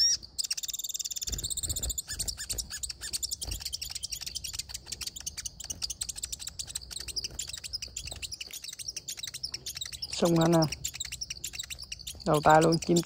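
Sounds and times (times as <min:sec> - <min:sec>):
lower arched bird notes: 0:00.0 - 0:13.0
small birds chirping: 0:00.0 - 0:13.0.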